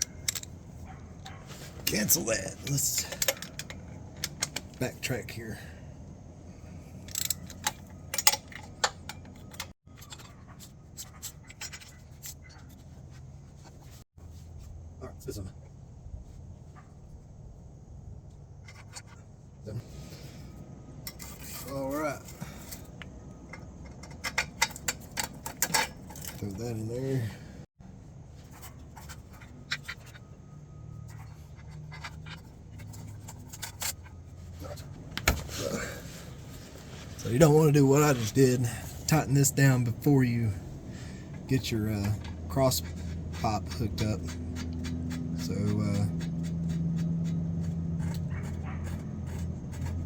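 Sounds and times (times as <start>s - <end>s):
metallic clicks and scrapes: 0.0s - 5.2s, 7.0s - 14.0s, 18.5s - 27.0s, 28.4s - 50.0s.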